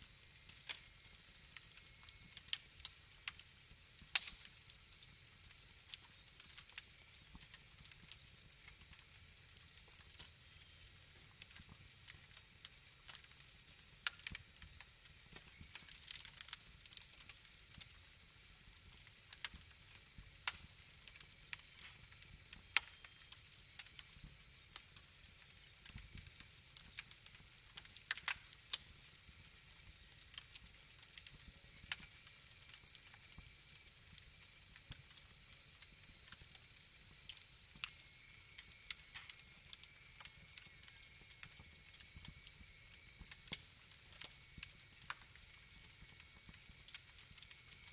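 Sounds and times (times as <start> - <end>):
wood fire crackling faintly: 0.0 - 47.9.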